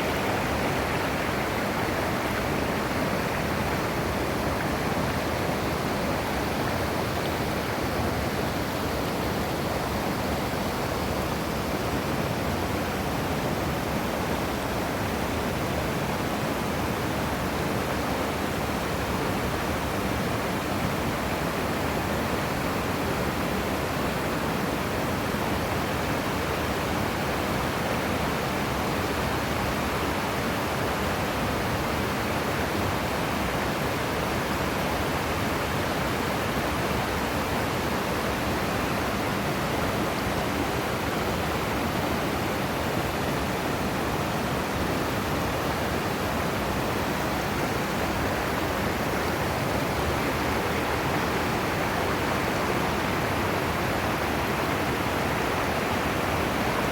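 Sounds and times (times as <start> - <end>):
waterfall pouring and splashing: 0.0 - 56.9.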